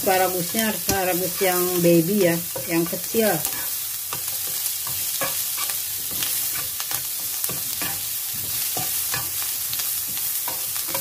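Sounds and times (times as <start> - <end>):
chopsticks tapping and scraping pan: 0.0 - 11.0
vegetables sizzling in butter: 0.0 - 11.0.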